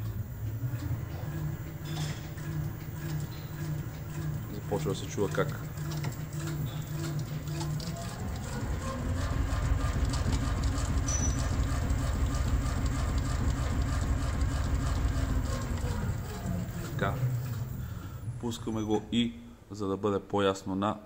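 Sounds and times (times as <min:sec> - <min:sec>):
test bench hum: 0:00.0 - 0:20.4.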